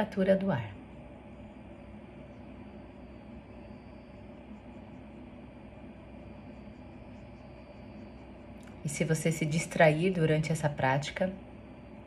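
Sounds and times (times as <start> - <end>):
low room hum and hiss: 0.0 - 12.0.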